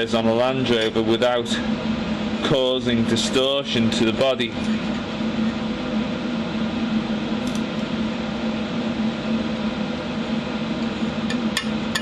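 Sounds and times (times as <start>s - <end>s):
welding unit low hum: 0.0s - 12.0s.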